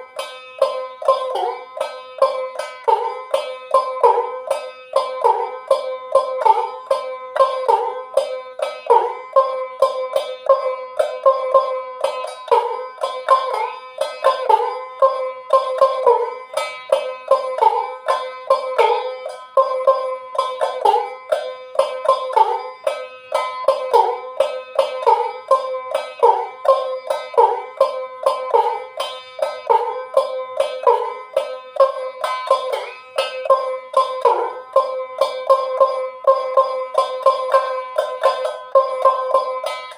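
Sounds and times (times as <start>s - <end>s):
one-string lute plucked rhythmically: 0.0s - 39.9s.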